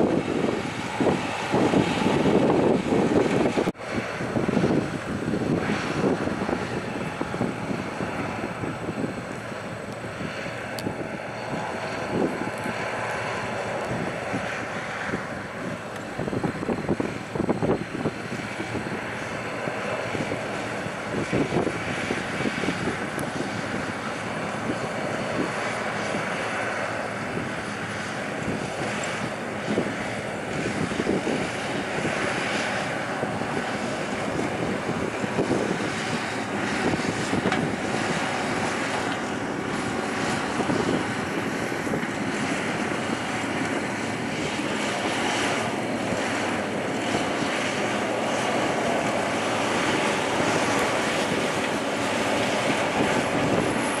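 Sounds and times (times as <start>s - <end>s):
harvester engine and machinery din: 0.0s - 54.0s.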